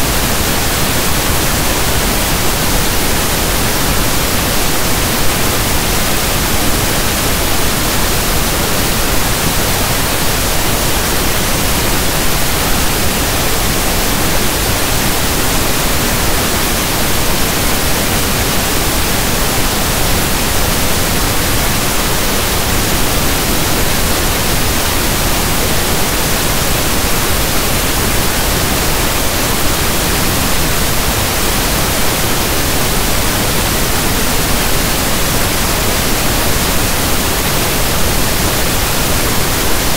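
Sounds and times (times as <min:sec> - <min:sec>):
pink noise static hiss: 0:00.0 - 0:39.9.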